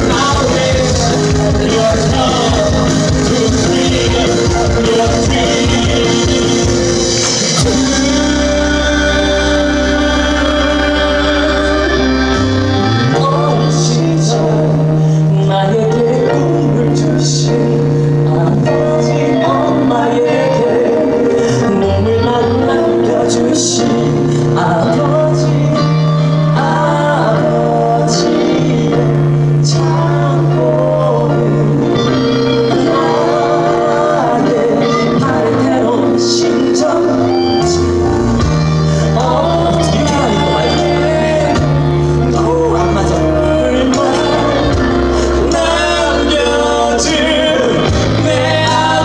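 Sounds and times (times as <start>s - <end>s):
amplified backing music: 0.0s - 49.0s
instrumental accompaniment: 0.0s - 49.0s
man singing into a microphone: 0.0s - 49.0s.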